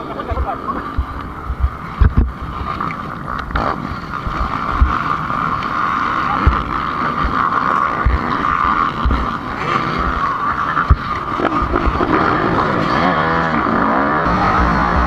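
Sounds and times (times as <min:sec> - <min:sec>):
dirt bike engine running: 0:00.0 - 0:15.0
wind thumping on microphone: 0:00.0 - 0:15.0.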